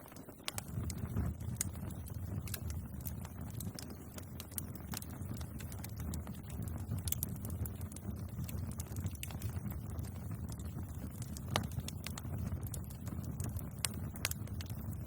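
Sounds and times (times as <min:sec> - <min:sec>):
bonfire flames rumbling: 0:00.0 - 0:15.0
burning wood crackling: 0:00.0 - 0:15.0.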